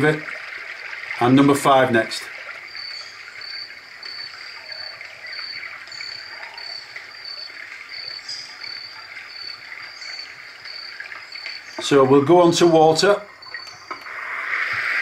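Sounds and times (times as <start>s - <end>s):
steady rushing hiss: 2.5s - 15.0s.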